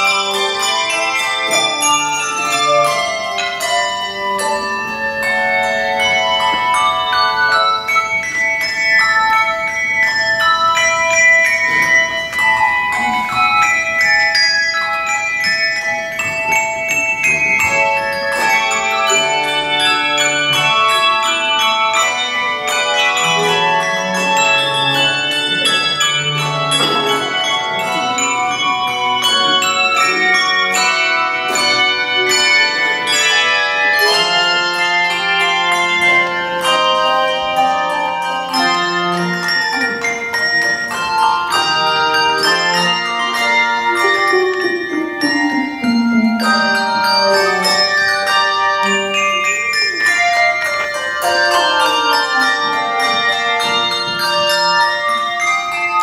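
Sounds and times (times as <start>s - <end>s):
handbells ringing: 0.0s - 56.0s
low bass bells: 0.0s - 56.0s.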